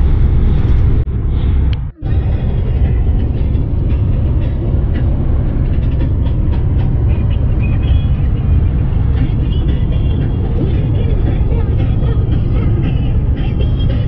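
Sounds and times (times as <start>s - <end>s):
truck engine and tyre rumble: 0.0s - 14.0s.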